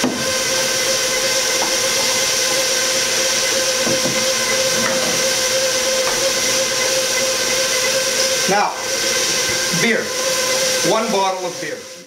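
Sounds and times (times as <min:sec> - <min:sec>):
stand mixer motor whining: 0:00.0 - 0:12.0.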